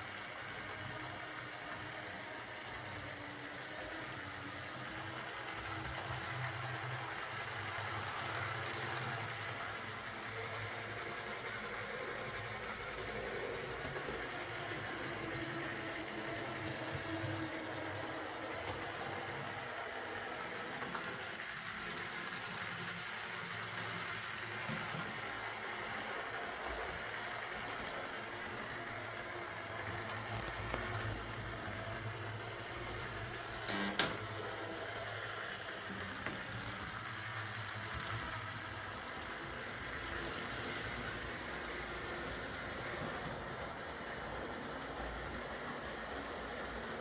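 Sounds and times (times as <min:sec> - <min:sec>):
model locomotive motor buzz: 0:00.0 - 0:47.0.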